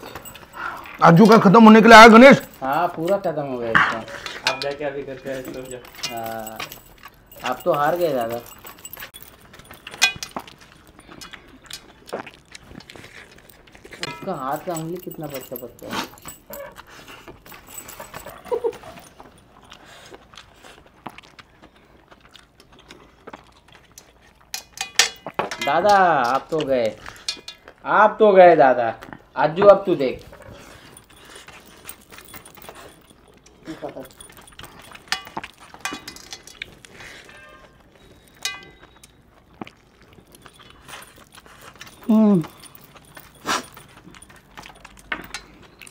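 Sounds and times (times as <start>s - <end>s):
light metallic clicks and clinks: 0.0s - 20.3s, 23.6s - 27.8s, 29.5s - 45.9s
chewing: 0.0s - 27.9s, 28.8s - 45.9s.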